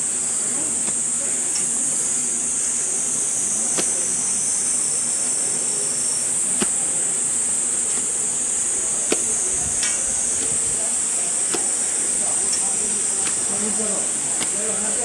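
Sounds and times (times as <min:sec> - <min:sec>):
cicada chorus drone: 0:00.0 - 0:15.0.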